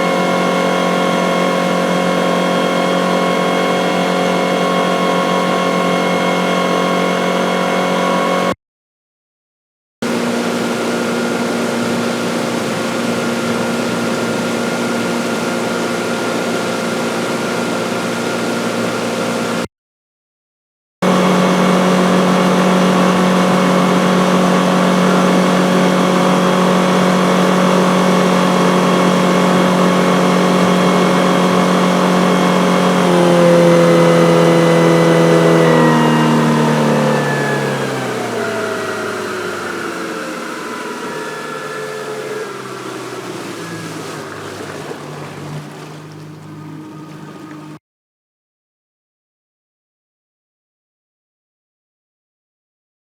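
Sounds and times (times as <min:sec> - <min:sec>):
outboard motor running: 0:00.0 - 0:08.6, 0:10.0 - 0:19.7, 0:21.0 - 0:47.8.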